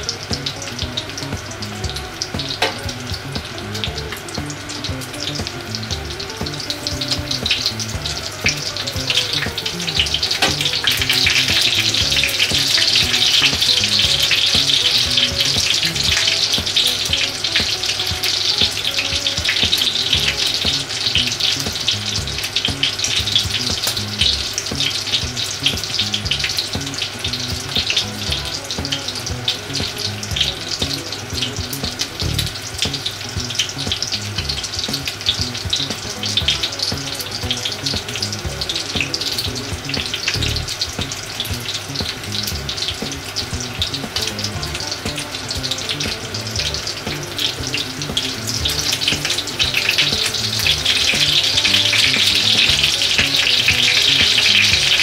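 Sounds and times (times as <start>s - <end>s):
cutlets frying in oil: 0.0s - 55.0s.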